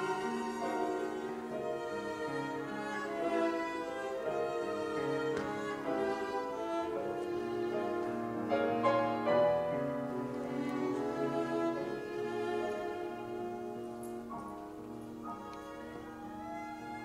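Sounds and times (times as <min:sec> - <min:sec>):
bowed violin and cello: 0:00.0 - 0:17.0
piano chords: 0:00.0 - 0:17.0.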